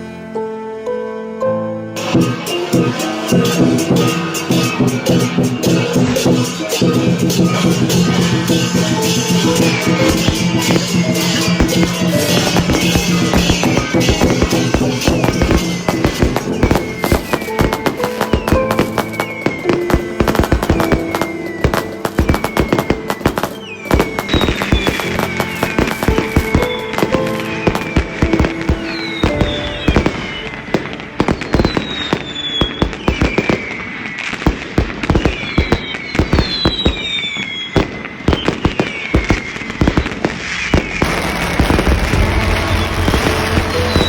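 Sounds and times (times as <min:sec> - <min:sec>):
music playing: 0:00.0 - 0:33.8, 0:40.7 - 0:44.0
firecrackers and fireworks banging: 0:02.0 - 0:44.0.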